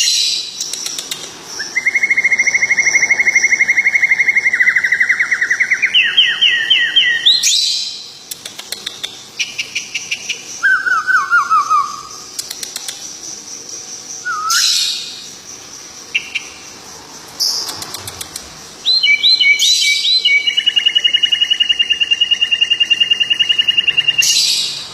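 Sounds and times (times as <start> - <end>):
bird singing: 0.0 - 24.9
bird trill: 0.0 - 24.9.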